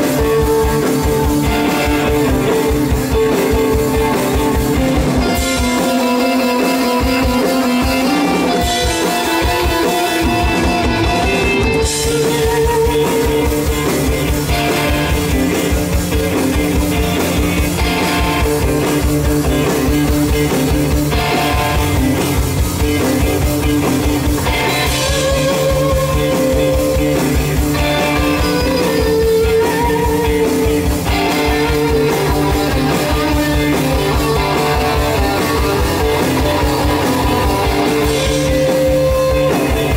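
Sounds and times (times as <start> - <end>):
bass guitar: 0.0 - 39.9
drum kit beat: 0.0 - 39.9
electric guitars: 0.0 - 39.9.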